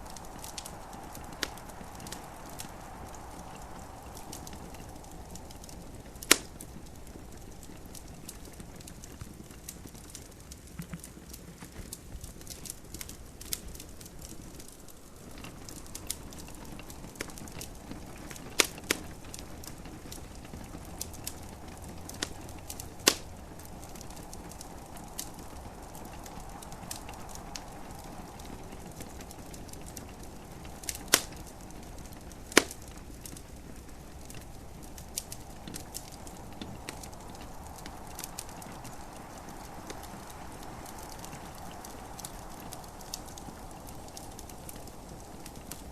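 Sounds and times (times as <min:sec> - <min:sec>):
gentle rain hissing: 0:00.0 - 0:45.9
sharp fire pops: 0:00.0 - 0:45.9
wood fire crackling: 0:00.0 - 0:45.9.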